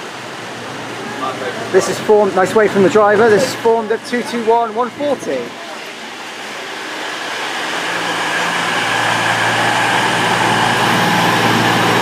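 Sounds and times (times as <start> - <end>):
train diesel engines humming: 0.1 - 12.0.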